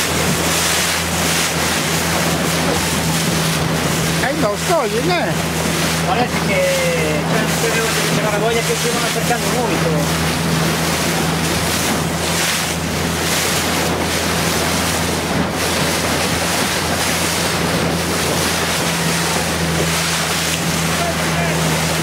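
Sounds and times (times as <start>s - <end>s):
motorboat engine running: 0.0s - 22.0s
water washing past hull: 0.0s - 22.0s
wind buffeting microphone: 0.0s - 22.0s.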